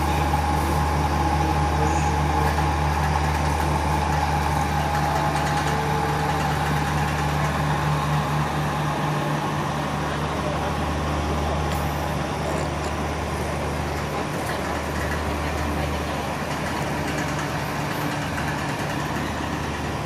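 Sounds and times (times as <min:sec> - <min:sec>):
train diesel engine droning: 0:00.0 - 0:20.0.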